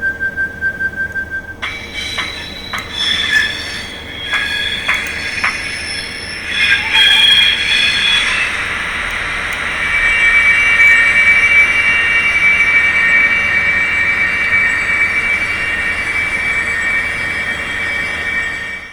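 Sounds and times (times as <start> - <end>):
high-pitched locomotive whine: 0.0 - 18.9
hiss: 1.6 - 17.0.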